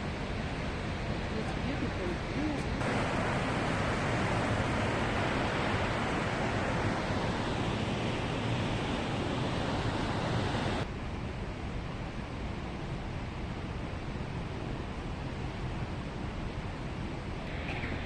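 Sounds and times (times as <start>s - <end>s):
water rushing through a dam: 0.0s - 18.0s.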